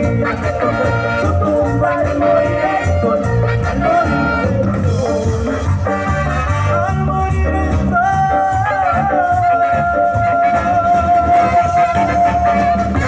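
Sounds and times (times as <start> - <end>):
latin band and orchestra playing: 0.0 - 13.0.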